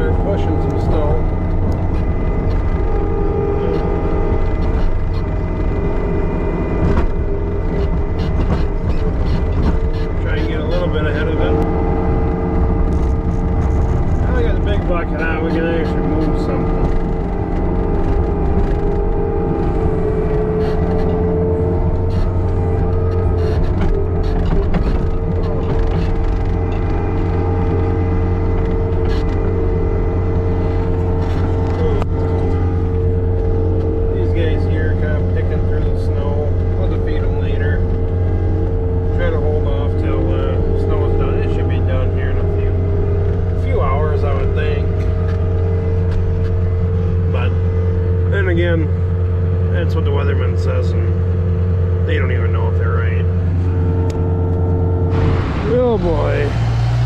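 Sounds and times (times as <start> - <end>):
thin steady whine: 0.0 - 57.0
tractor engine under load: 0.0 - 57.0.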